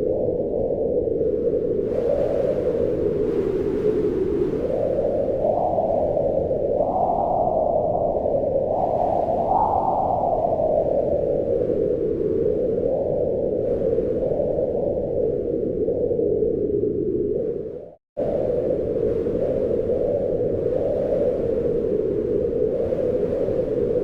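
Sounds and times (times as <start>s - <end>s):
howling wind: 0.0s - 24.0s.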